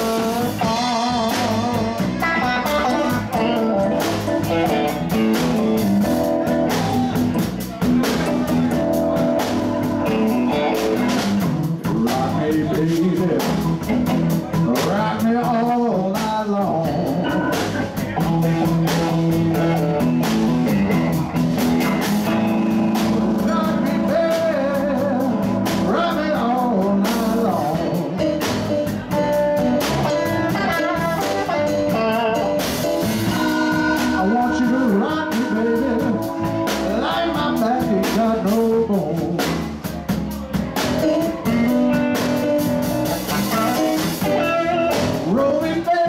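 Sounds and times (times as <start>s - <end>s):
live blues band playing: 0.0s - 46.0s
steady drum beat: 0.0s - 46.0s.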